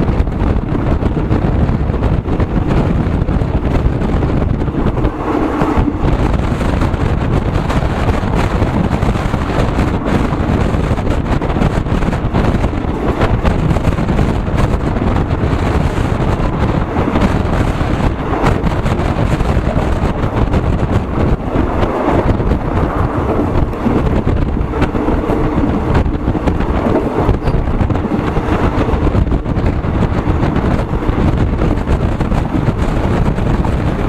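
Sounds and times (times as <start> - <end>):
moving vehicle running noise: 0.0 - 34.0
wind buffeting microphone: 0.0 - 34.0.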